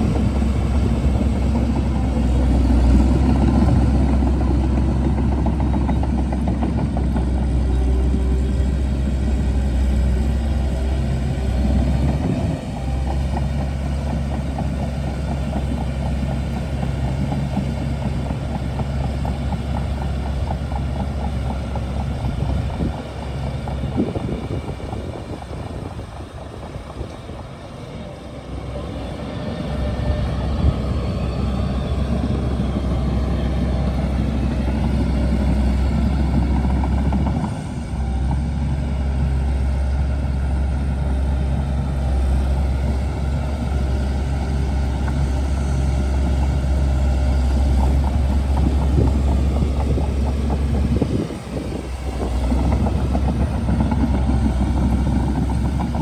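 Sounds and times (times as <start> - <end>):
bulldozer diesel engine rumbling: 0.0 - 56.0.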